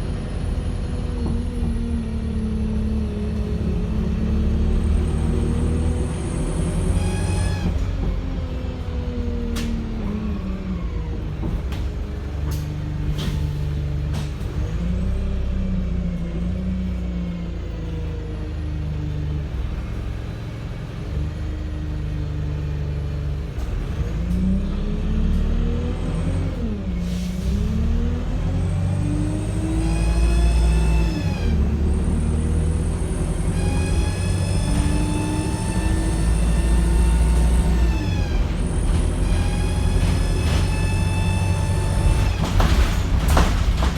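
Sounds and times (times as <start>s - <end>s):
bus diesel engine working hard: 0.0s - 43.9s.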